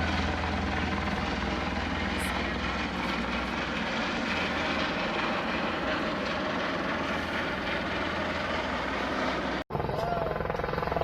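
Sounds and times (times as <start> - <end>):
helicopter engine and rotor din: 0.0 - 11.0.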